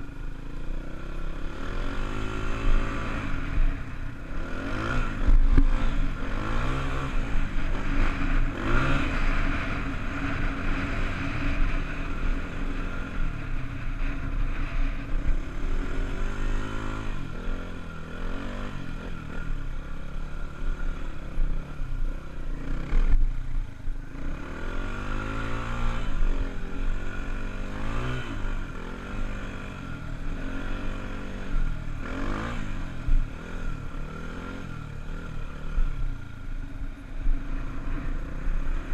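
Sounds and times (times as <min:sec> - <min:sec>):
dirt bike engine revving: 0:00.6 - 0:23.2, 0:24.1 - 0:35.9.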